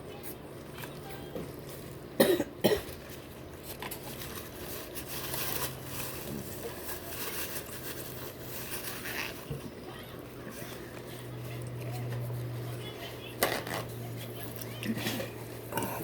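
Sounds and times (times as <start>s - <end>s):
crinkly rustling: 2.8s - 15.7s.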